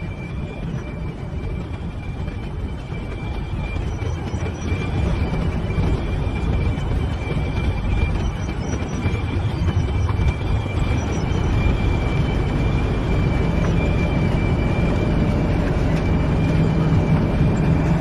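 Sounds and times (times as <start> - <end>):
heavy machinery rumble: 0.0 - 18.0
high continuous whine: 0.0 - 18.0.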